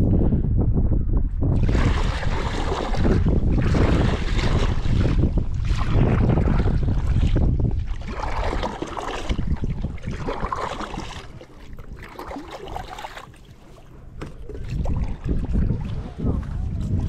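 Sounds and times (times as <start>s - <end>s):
wind buffeting microphone: 0.0s - 17.0s
water splashing around a boat: 1.5s - 17.0s.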